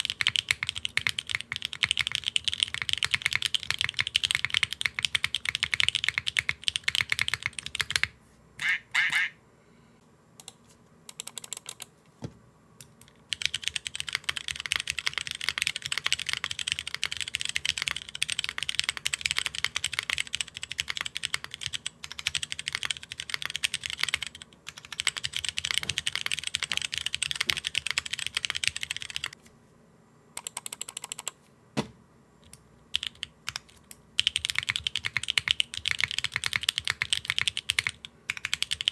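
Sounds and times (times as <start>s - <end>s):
mechanical keyboard typing: 0.0s - 8.1s, 10.4s - 11.9s, 13.0s - 29.4s, 30.4s - 31.4s, 32.4s - 38.9s.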